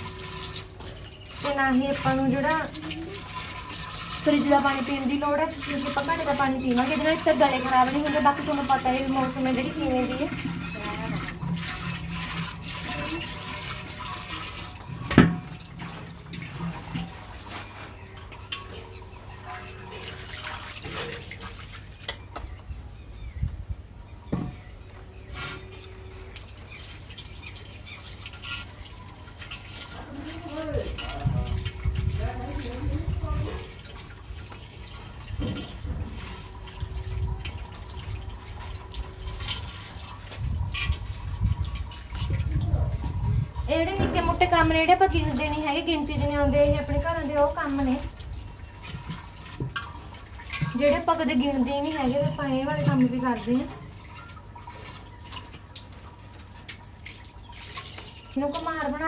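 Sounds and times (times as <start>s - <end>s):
tap water splashing: 0.0s - 17.7s, 19.9s - 22.6s, 24.3s - 24.6s, 25.8s - 59.0s
water dripping: 0.0s - 22.7s, 25.8s - 59.0s.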